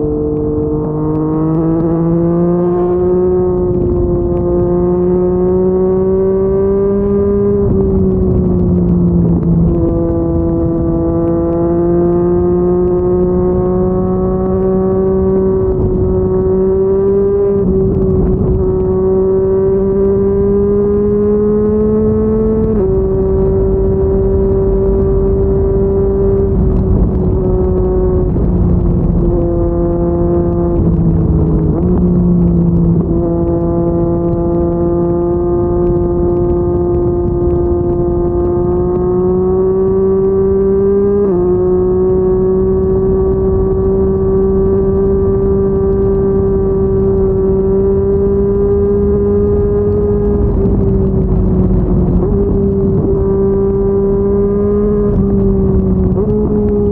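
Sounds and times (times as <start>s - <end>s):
motorcycle engine drone: 0.0s - 56.9s
wind and road noise: 0.0s - 56.9s.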